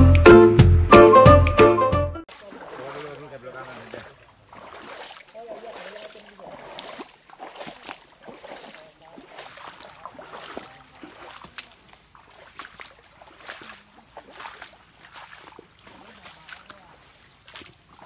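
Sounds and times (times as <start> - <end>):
river water splashing: 2.3 - 18.0.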